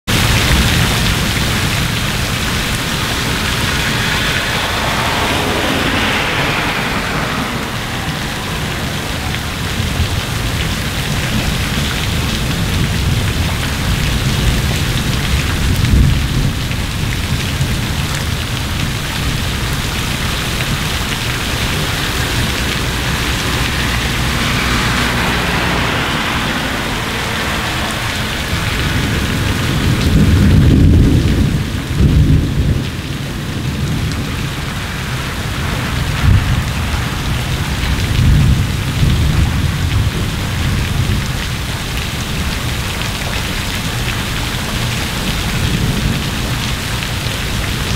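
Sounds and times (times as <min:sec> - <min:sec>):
heavy rain pouring: 0:00.0 - 0:47.9
thunder rumbling: 0:00.1 - 0:47.9.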